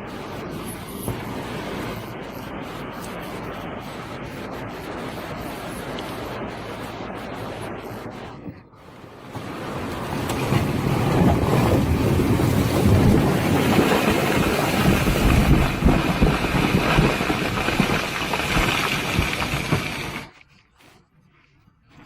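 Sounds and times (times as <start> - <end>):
strong wind roaring: 0.0 - 20.3
wind buffeting microphone: 0.0 - 20.4.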